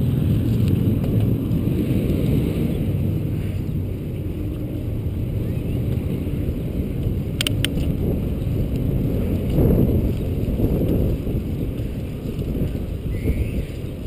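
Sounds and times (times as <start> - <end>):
low rumble from bicycle ride: 0.0 - 14.0
wind rushing over microphone: 0.0 - 14.0.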